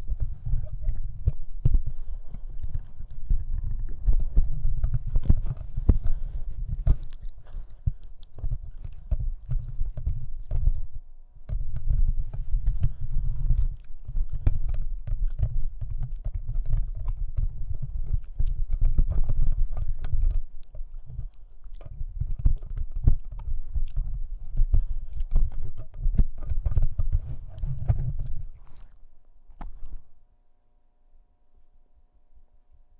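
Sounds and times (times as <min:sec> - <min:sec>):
puppy chewing on cable: 0:00.0 - 0:30.2.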